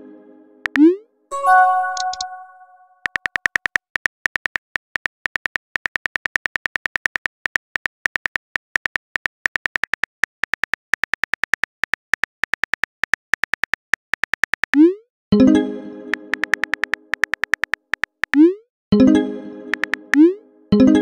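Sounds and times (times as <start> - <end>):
keyboard typing clicks: 0.6 - 14.9, 16.3 - 18.5, 19.7 - 20.3.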